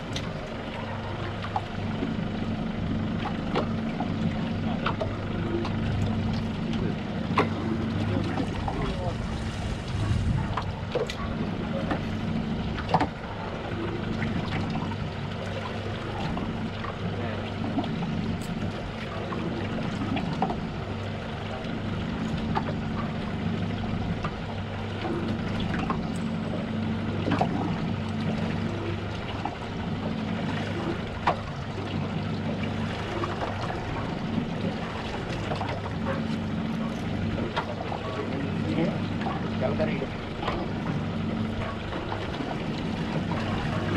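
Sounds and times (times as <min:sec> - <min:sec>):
boat engine humming: 0:00.0 - 0:43.9
water sloshing against hull: 0:00.0 - 0:43.9.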